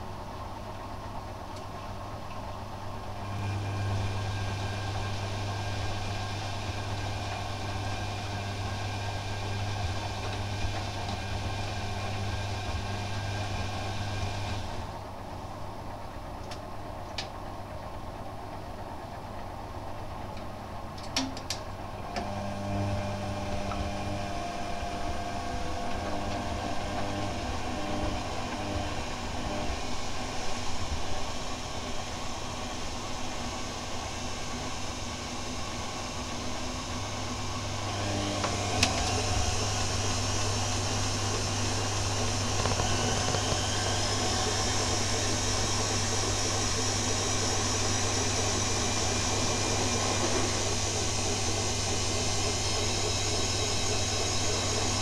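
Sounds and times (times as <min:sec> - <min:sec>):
washing machine humming: 0:00.0 - 0:55.0.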